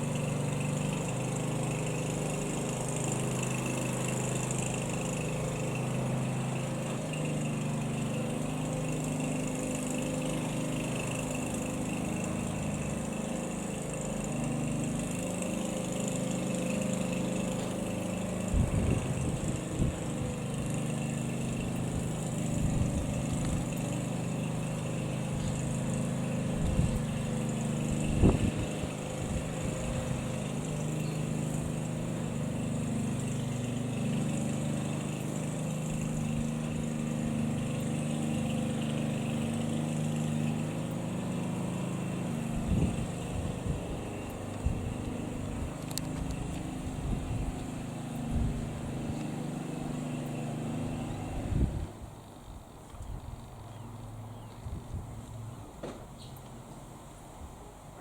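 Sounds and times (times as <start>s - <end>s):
light aircraft droning: 0.0s - 58.0s.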